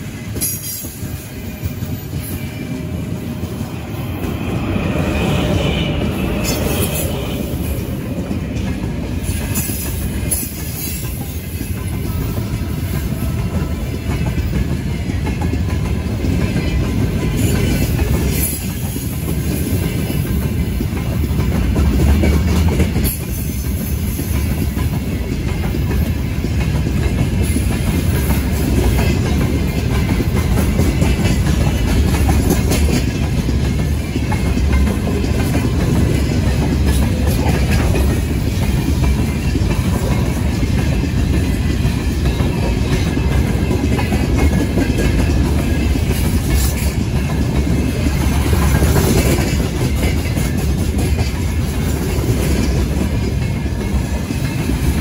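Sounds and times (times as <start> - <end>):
train rumbling past: 0.0 - 55.0
wheels clattering on rails: 0.0 - 55.0.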